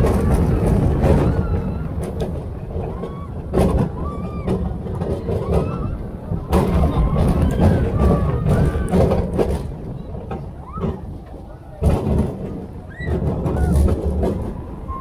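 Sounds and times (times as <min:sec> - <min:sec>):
roller coaster rumbling on track: 0:00.0 - 0:15.0
voices calling out: 0:00.0 - 0:15.0
wind buffeting microphone: 0:00.0 - 0:15.0.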